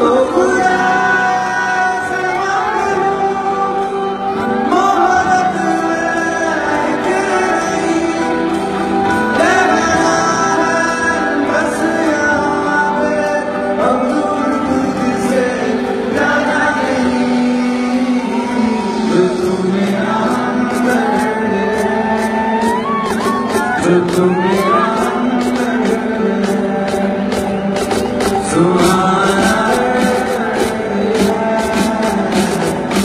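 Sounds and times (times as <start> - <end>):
acoustic guitar: 0.0 - 33.0
live band playing: 0.0 - 33.0
man singing: 0.0 - 33.0.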